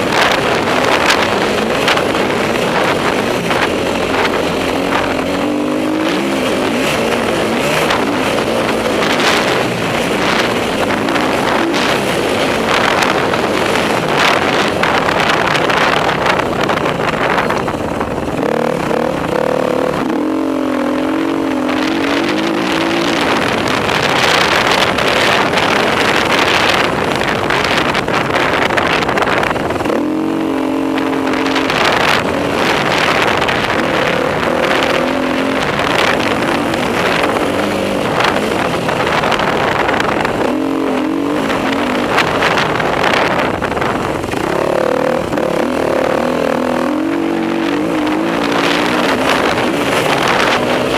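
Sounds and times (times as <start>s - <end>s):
constant rushing noise: 0.0s - 50.9s
motorcycle engine revving: 0.0s - 50.9s.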